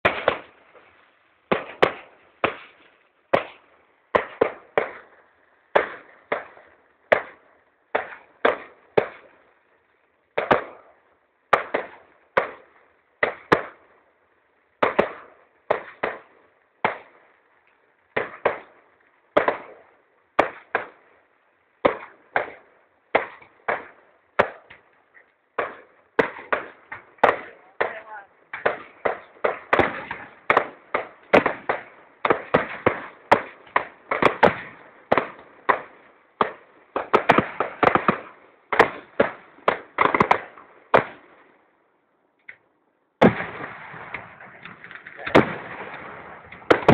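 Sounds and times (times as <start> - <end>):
fireworks bangs: 0.0 - 9.5, 10.3 - 14.0, 14.8 - 17.2, 18.1 - 21.2, 21.8 - 41.5, 43.2 - 46.9.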